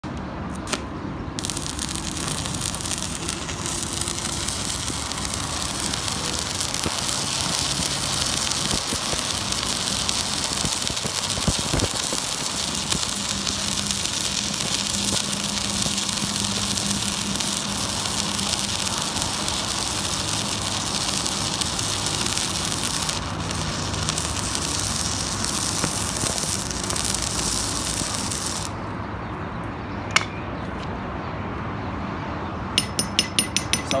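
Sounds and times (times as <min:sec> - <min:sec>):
stick welding arc burning: 0:00.5 - 0:29.0.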